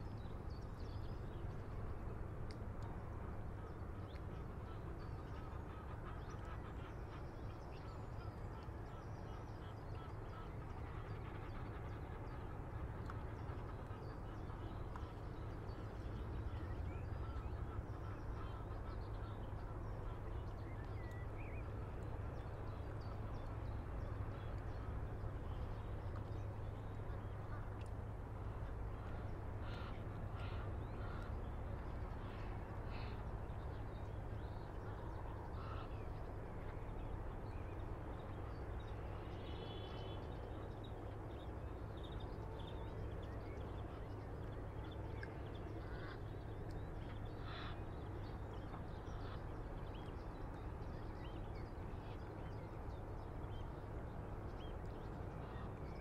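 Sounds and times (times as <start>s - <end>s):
light breeze: 0.0s - 56.0s
water birds calling: 0.0s - 56.0s.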